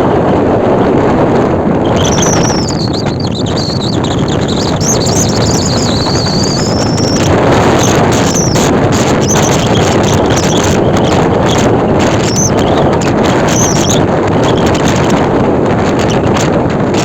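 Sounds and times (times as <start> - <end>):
wind blowing across microphone: 0.0 - 17.0
rough sea breaking: 0.4 - 17.0
faint high squeaks: 1.8 - 15.2, 16.0 - 16.4.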